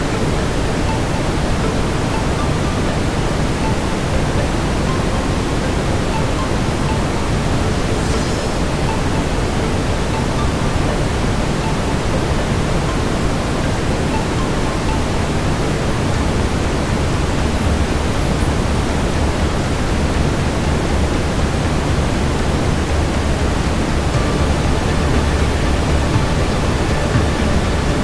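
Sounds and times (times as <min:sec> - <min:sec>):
brown noise hiss: 0:00.0 - 0:28.0.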